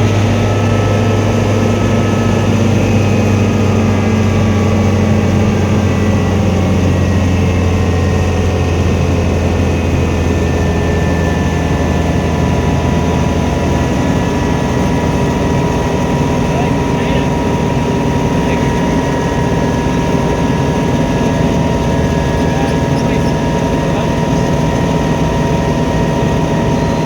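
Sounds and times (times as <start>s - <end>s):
helicopter drone: 0.0s - 27.0s.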